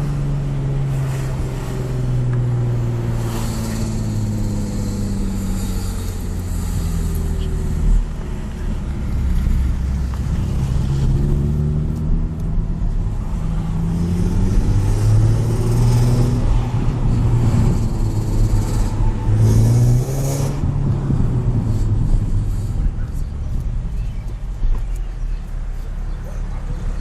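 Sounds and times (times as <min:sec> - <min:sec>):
car engine revving: 0:00.0 - 0:24.2.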